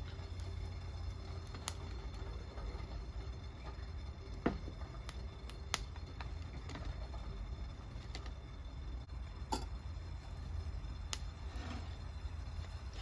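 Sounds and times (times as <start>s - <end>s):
campfire crackling and popping: 0.0s - 8.6s, 9.4s - 13.0s
low steady rumble: 0.0s - 13.0s.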